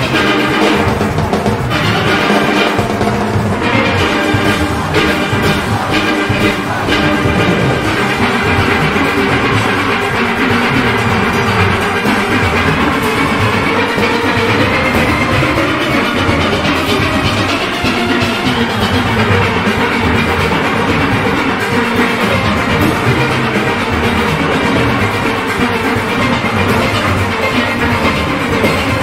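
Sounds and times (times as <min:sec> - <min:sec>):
drum and percussion beat: 0:00.0 - 0:29.0
steelpans playing: 0:00.0 - 0:29.0.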